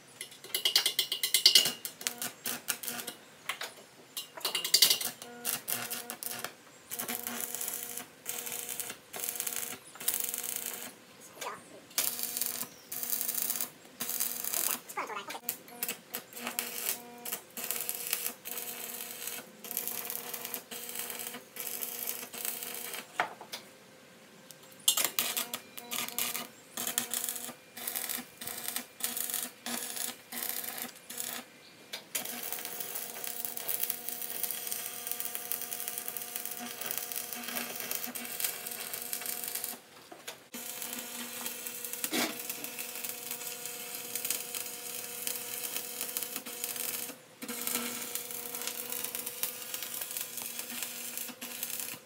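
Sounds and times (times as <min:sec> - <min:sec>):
welder arc crackling: 0:00.6 - 0:03.2, 0:04.2 - 0:23.2, 0:24.9 - 0:31.5, 0:32.1 - 0:52.0.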